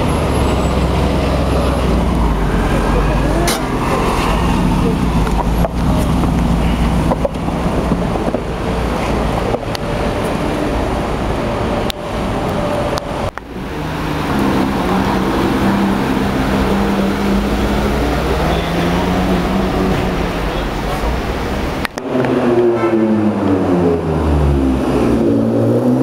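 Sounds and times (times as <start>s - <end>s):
street traffic: 0.0s - 26.0s
supercar engines: 0.0s - 26.0s.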